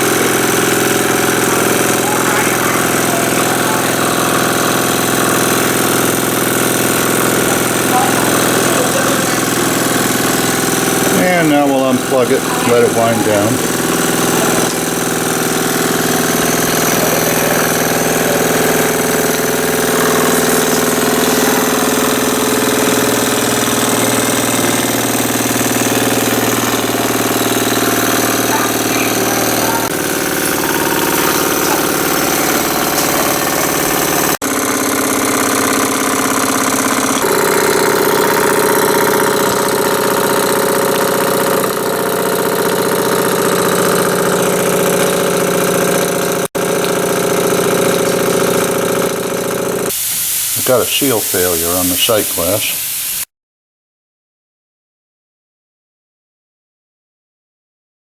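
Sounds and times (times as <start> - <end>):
model steam engine running: 0.0 - 53.3.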